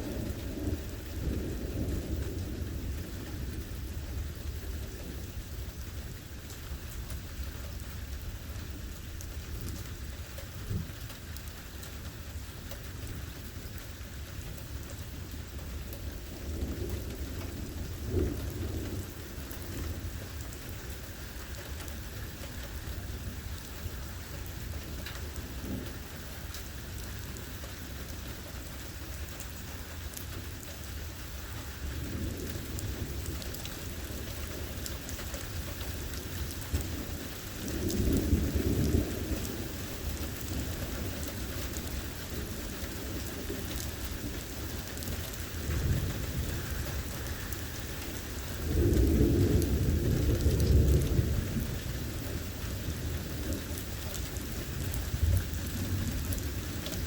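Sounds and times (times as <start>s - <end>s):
thunder rumbling: 0.0s - 11.1s, 14.5s - 57.0s
steady rain falling: 0.0s - 57.0s.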